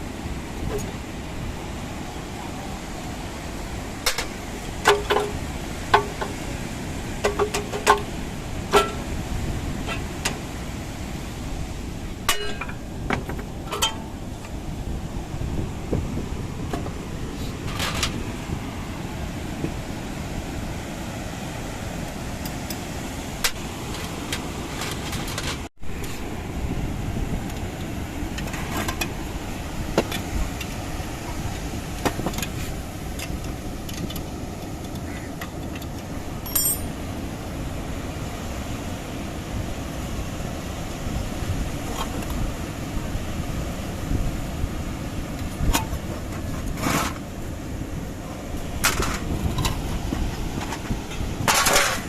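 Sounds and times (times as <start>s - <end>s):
wind: 0.0s - 52.0s.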